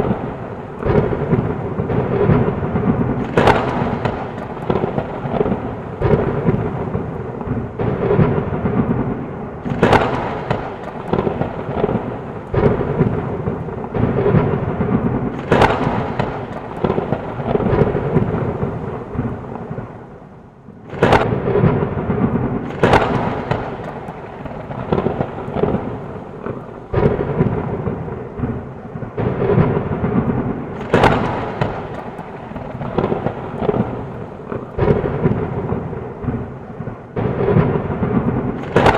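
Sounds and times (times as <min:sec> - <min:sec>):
rain: 0:00.0 - 0:38.9
rolling thunder: 0:00.0 - 0:38.9
sharp thunder cracks: 0:00.0 - 0:38.9.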